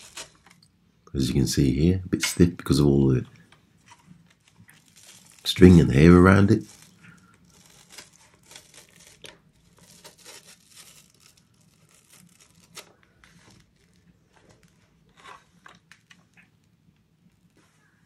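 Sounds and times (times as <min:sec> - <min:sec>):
faint scraping and rustling: 0:00.0 - 0:18.0.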